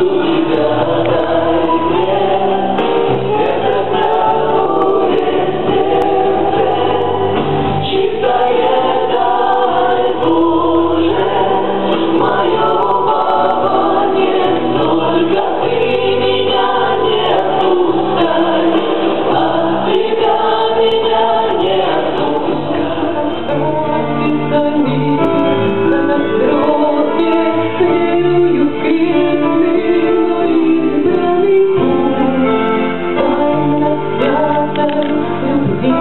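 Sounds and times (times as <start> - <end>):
congregation singing a hymn: 0.0 - 36.0.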